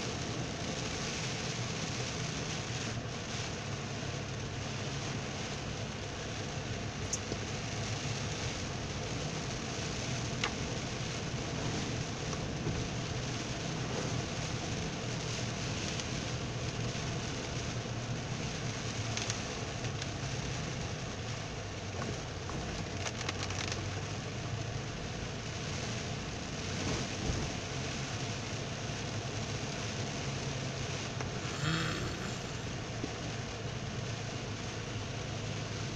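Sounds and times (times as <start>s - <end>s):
car engine humming: 0.0s - 35.9s
heavy rain on car: 0.0s - 35.9s
tyres hissing on wet road: 0.0s - 35.9s.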